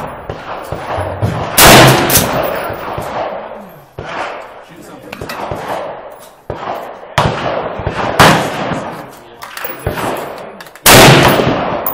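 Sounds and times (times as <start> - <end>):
rifle shots echoing: 0.0 - 11.9.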